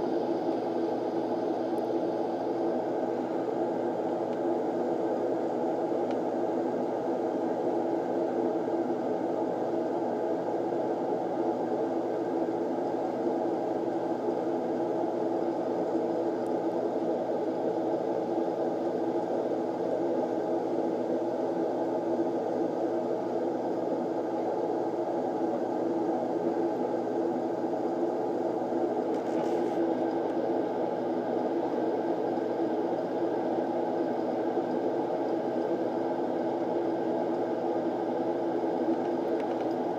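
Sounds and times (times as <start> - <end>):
low whirring hum: 0.0 - 39.9.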